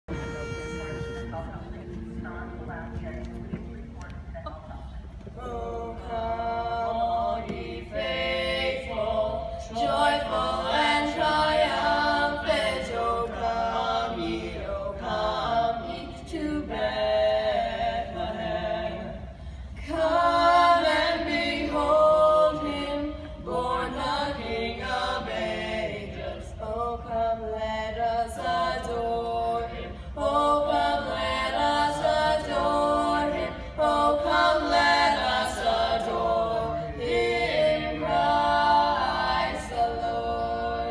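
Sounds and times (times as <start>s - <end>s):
boys singing in close harmony: 5.4s - 40.9s.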